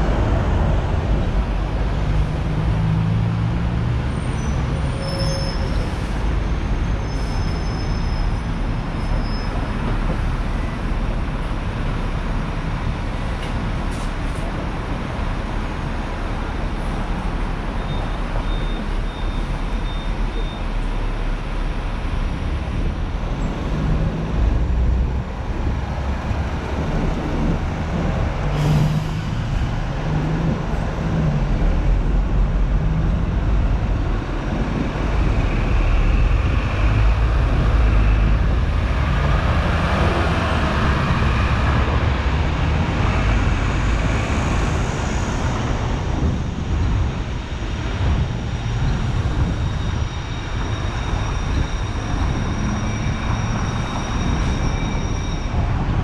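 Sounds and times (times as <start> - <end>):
road traffic: 0.0 - 56.0
tram wheels and motor rumbling: 0.0 - 56.0.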